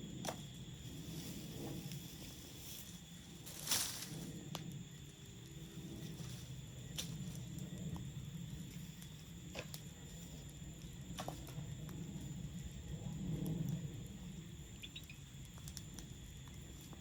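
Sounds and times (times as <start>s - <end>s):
campfire flames rustling: 0.0s - 17.0s
fire crackling and popping: 0.0s - 17.0s.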